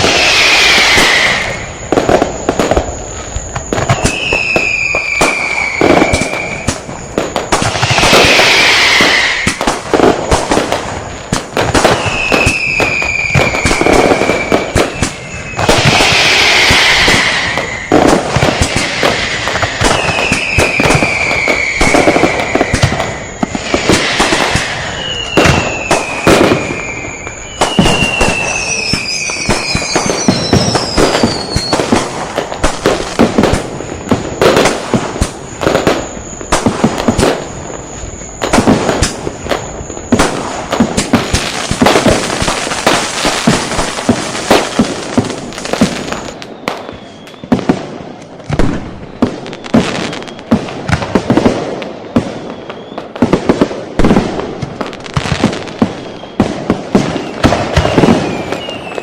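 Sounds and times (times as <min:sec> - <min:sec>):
firecrackers banging: 0:00.0 - 0:59.0
whistling fireworks: 0:00.0 - 0:59.0.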